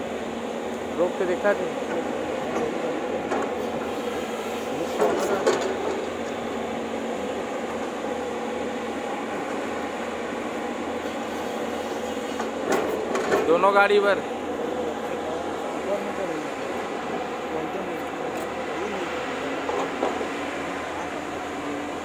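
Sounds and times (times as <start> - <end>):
tracked excavator running: 0.0 - 22.0.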